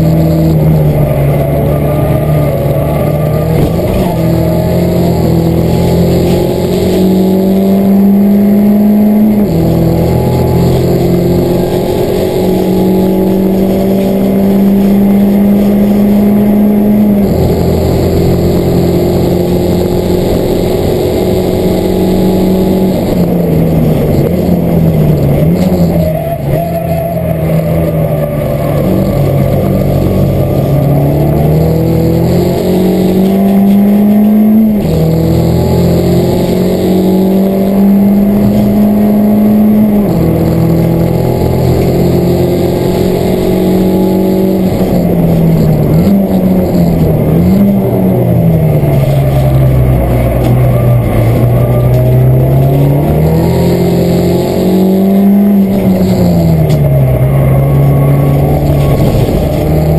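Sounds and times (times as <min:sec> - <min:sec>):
gear changes: 0:00.0 - 0:59.9
race car engine revving: 0:00.0 - 0:59.9.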